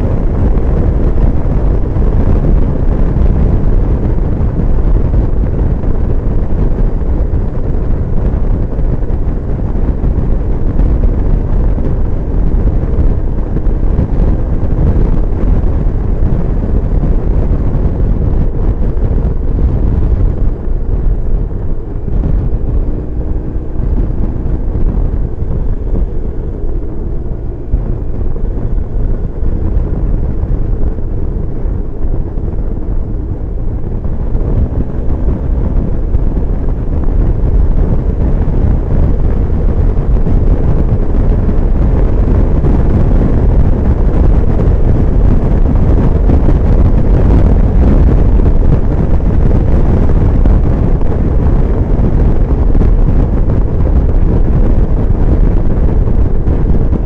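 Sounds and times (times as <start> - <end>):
motorcycle engine: 0.0 - 57.0
wind rumbling on microphone: 0.0 - 57.0.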